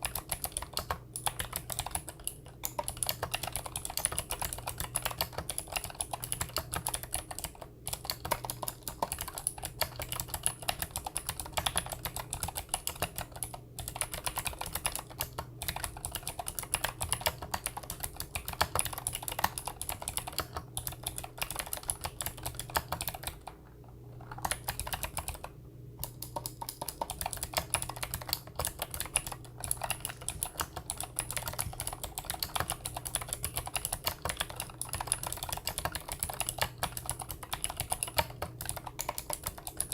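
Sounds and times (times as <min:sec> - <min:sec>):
fast clicky keyboard typing: 0:00.0 - 0:39.9.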